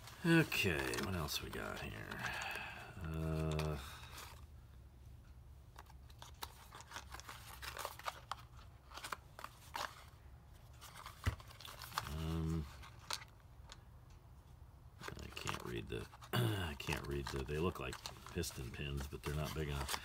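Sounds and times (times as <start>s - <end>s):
cardboard boxes crinkling: 0.0s - 4.4s, 5.8s - 13.3s, 15.0s - 20.0s.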